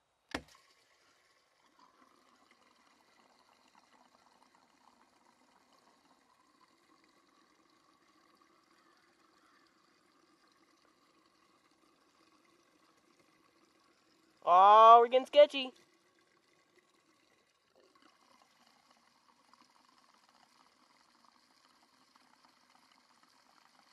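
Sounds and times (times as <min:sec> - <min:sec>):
fuel trickling into tank: 0:00.0 - 0:23.9.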